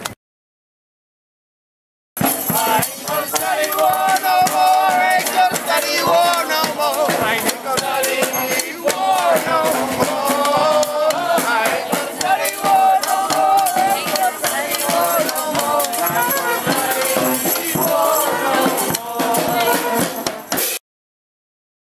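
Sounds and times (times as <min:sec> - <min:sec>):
rattling percussion: 0:02.2 - 0:20.8
saxophone and brass horns: 0:02.2 - 0:20.8.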